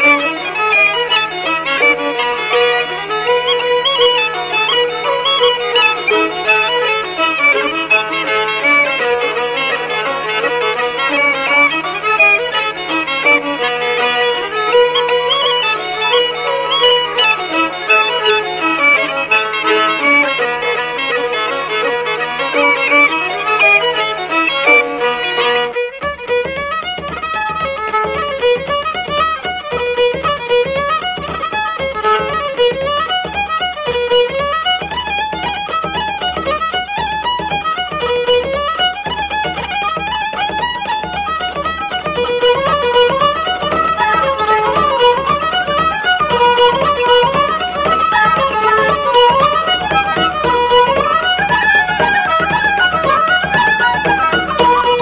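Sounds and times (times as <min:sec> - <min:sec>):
lively fiddle tune: 0:00.0 - 0:55.0.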